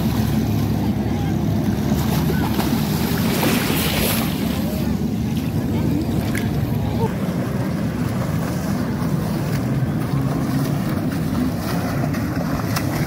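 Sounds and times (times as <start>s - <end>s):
sea water splashing: 0.0s - 13.0s.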